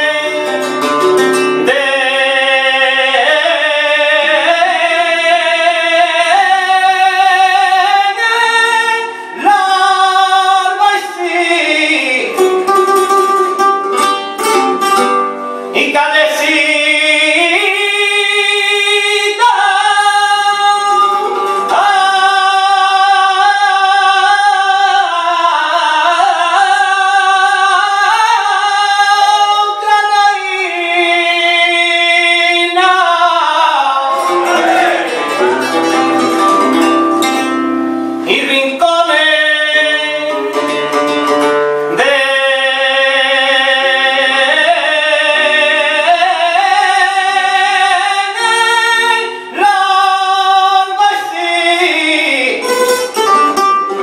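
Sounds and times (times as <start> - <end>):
flamenco guitar: 0.0 - 54.0
man singing flamenco: 0.0 - 54.0.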